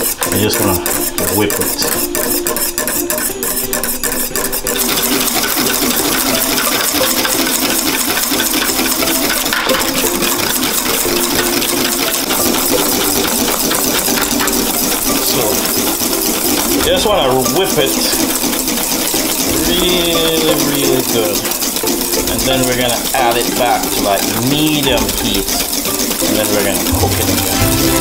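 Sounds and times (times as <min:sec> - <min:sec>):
whisk beating in metal bowl: 0:00.0 - 0:28.0.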